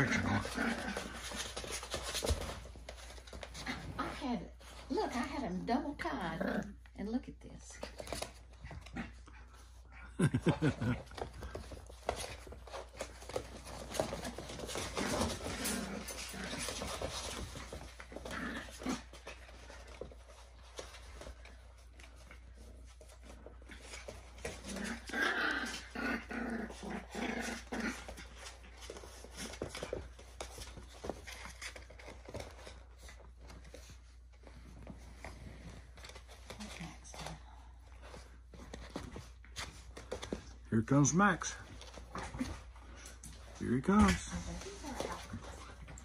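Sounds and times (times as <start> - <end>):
puppies play-growling and yipping: 0.0 - 7.0, 7.8 - 40.7, 41.6 - 43.6, 44.2 - 46.0.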